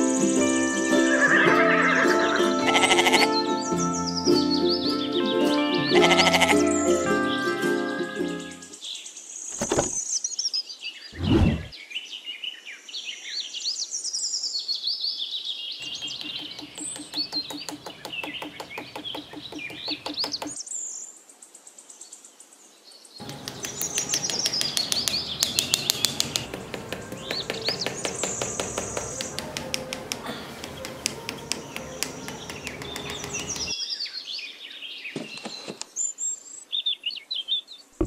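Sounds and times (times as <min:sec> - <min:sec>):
birds chirping and singing: 0:00.0 - 0:21.0, 0:23.2 - 0:37.9.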